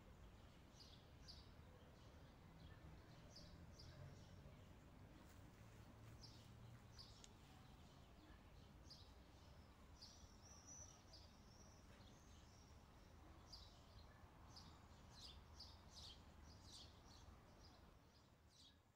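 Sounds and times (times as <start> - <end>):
birds chirping: 0.3 - 17.9.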